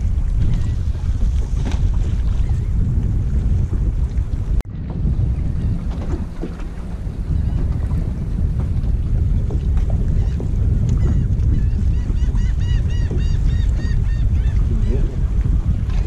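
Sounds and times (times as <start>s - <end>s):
water lapping on boat hull: 0.0s - 16.0s
wind buffeting microphone: 0.0s - 16.0s.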